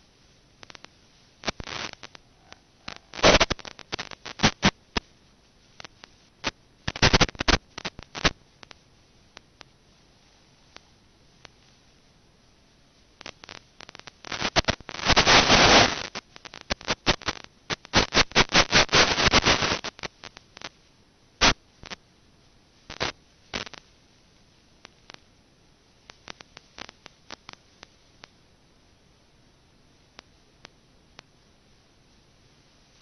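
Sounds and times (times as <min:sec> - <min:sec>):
crackling static clicks: 0:00.0 - 0:33.0.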